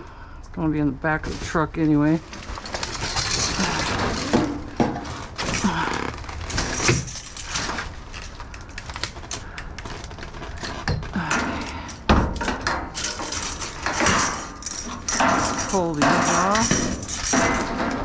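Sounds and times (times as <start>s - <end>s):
junk knocking and scraping: 2.2s - 18.0s.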